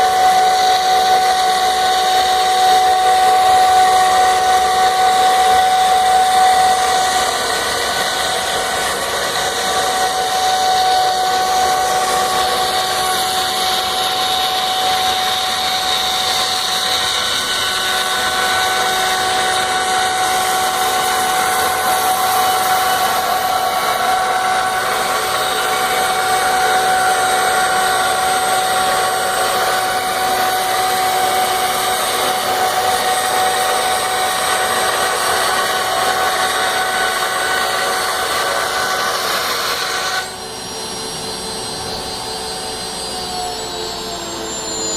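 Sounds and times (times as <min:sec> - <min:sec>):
router spindle whining: 0:00.0 - 0:44.9.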